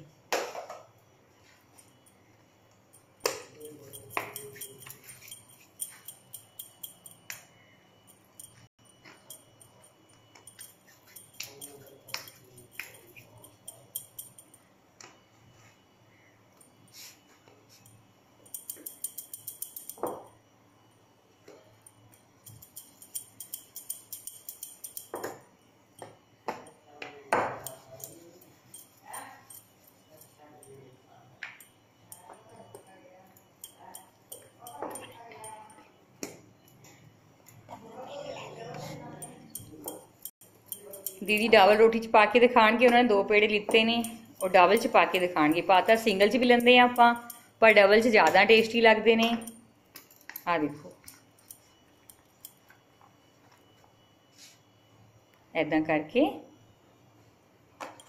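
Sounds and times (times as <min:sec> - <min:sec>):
metal bangles clinking: 0:01.4 - 0:14.7, 0:16.1 - 0:20.9, 0:21.6 - 0:36.0, 0:38.8 - 0:53.8.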